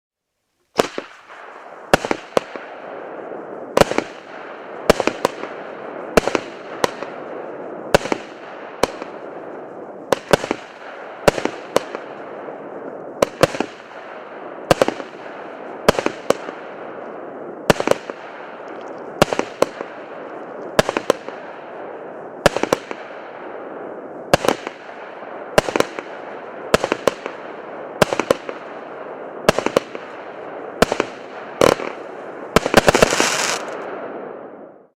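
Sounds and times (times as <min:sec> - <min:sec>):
firework crackling: 0:00.6 - 0:34.8
firework bangs: 0:00.7 - 0:34.8.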